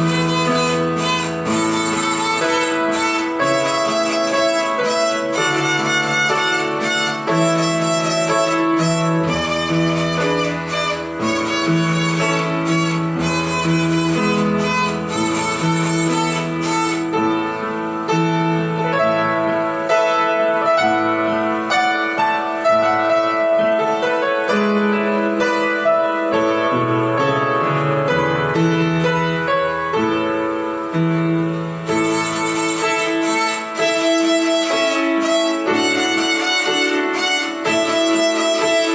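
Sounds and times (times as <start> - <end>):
lower accompaniment notes: 0.0 - 38.9
violin melody: 0.0 - 38.9.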